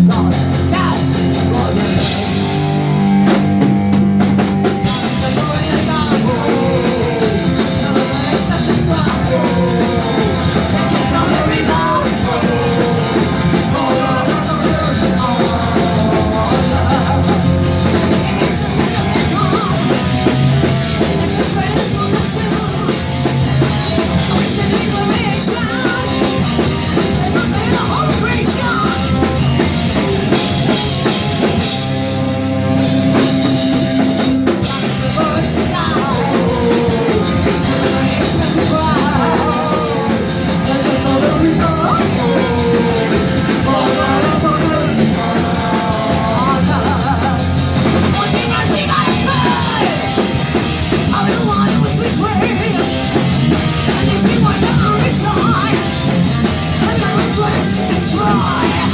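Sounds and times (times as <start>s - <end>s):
punk rock band playing live: 0.0s - 58.9s
person singing: 4.8s - 31.6s, 32.8s - 58.9s.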